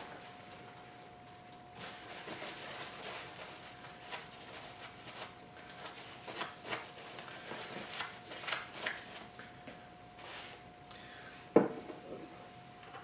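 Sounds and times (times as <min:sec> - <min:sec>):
paper towel rustling and crinkling: 0:00.0 - 0:10.7
faint steady whine: 0:00.0 - 0:13.0.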